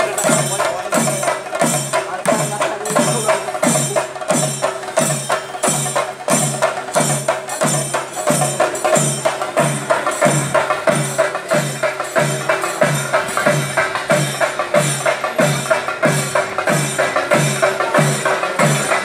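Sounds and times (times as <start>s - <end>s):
high metallic jingle: 0.0s - 19.0s.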